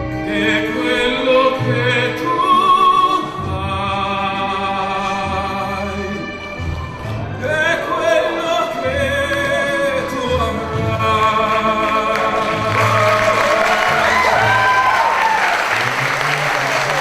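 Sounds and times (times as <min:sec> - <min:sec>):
person singing operatic ballad: 0:00.0 - 0:15.2
instrumental accompaniment with bass: 0:00.0 - 0:17.0.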